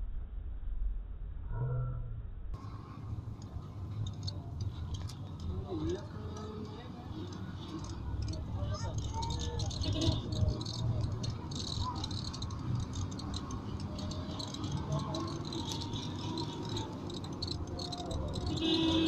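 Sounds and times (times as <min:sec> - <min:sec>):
road rumble: 0:01.6 - 0:19.0
vehicle interior rattling: 0:02.6 - 0:19.0.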